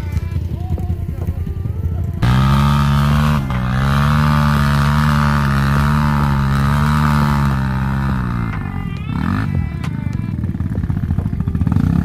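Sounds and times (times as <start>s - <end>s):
atv engine at high revs: 0.0s - 12.0s.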